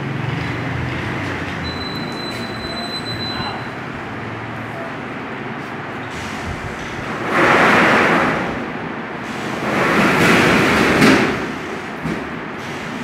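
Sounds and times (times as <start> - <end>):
street traffic noise: 0.0 - 13.0
vehicles passing by: 0.0 - 13.0.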